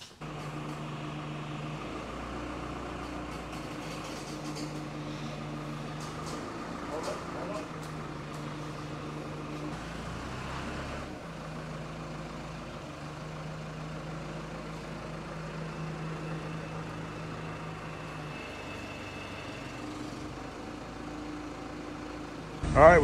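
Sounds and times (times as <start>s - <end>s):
engine-like drone: 0.0s - 23.0s.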